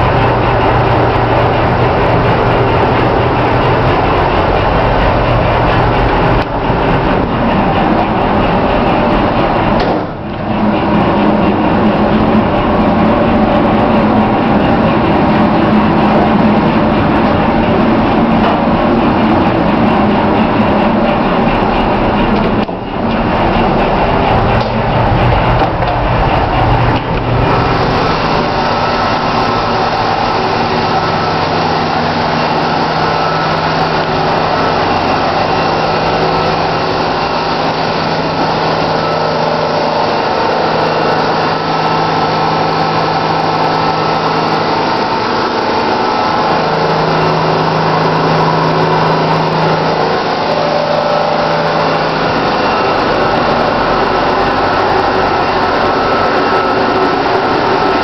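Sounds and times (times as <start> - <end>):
low hum: 0.0 - 58.0
ship machinery drone: 0.0 - 58.0.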